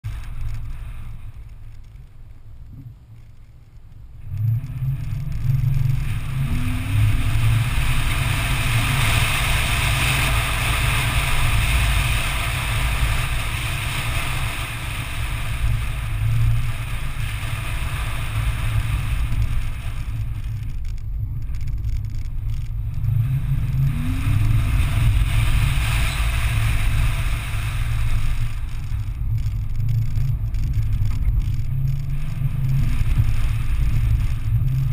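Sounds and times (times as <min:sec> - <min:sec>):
off-road vehicle engine and tyre rumble: 0:00.0 - 0:34.9.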